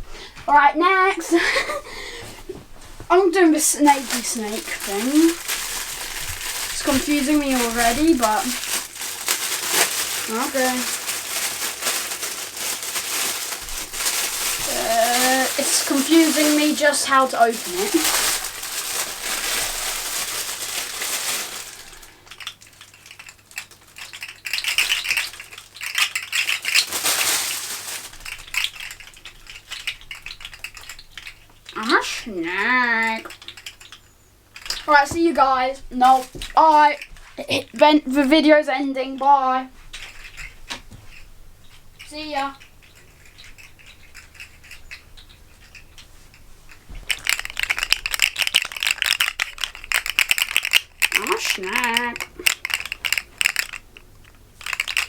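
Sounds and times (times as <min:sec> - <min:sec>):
packaging rustling: 0:01.4 - 0:31.8, 0:33.2 - 0:37.4, 0:39.8 - 0:55.0
plastic segments clicking and rattling: 0:03.1 - 0:41.2, 0:42.0 - 0:55.0.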